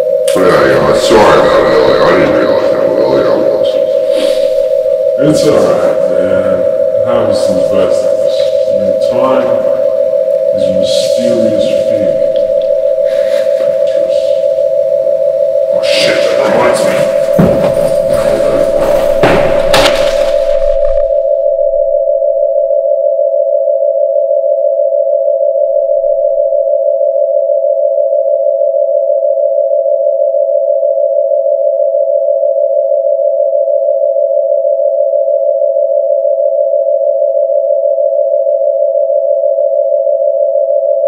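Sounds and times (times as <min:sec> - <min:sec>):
two-pitch electronic tone: 0:00.0 - 0:41.0.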